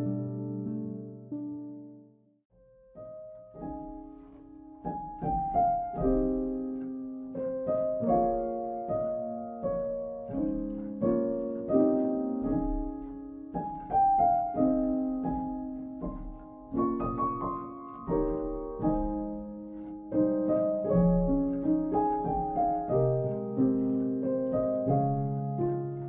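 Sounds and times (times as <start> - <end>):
soft slow piano melody: 0.0 - 26.0.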